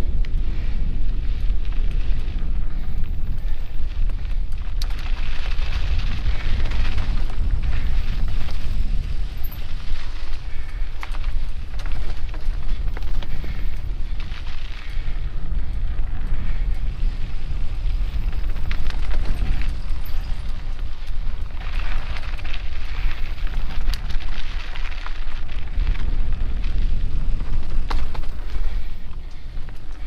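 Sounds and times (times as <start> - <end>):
bike clicks and rattles: 0.0 - 30.0
tyres rolling on leafy dirt trail: 0.0 - 30.0
wind rushing over microphone: 0.0 - 30.0.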